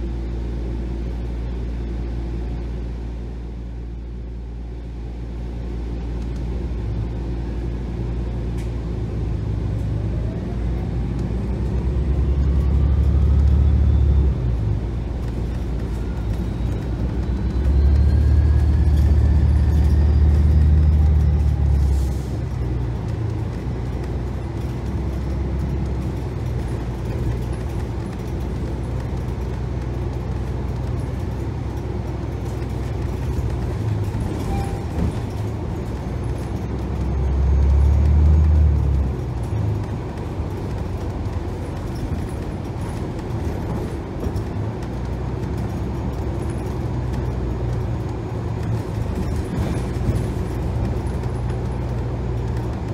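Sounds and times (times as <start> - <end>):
bus engine drone: 0.0 - 52.9.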